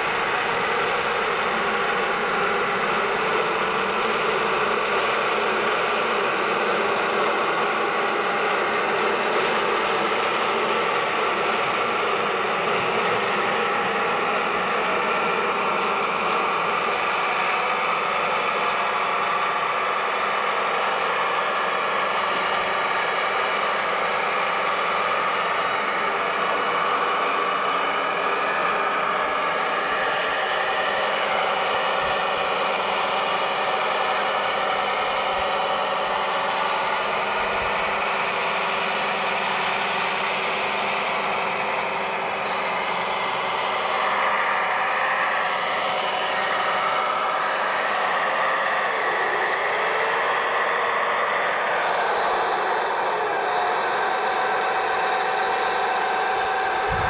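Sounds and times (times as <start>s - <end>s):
model motors whining: 0.0s - 57.0s.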